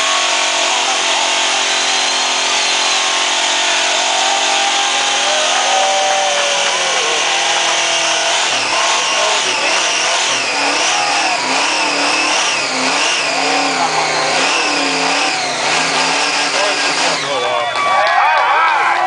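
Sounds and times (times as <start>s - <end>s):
engine revving at full throttle: 0.0s - 17.7s
tyres squealing: 0.0s - 17.9s.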